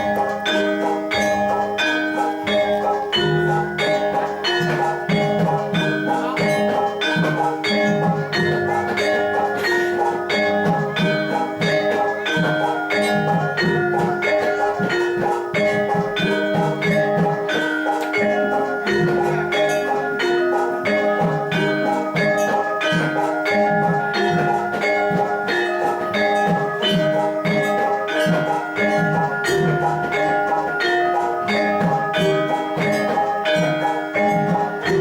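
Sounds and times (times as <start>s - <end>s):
gamelan ensemble playing: 0.0s - 35.0s.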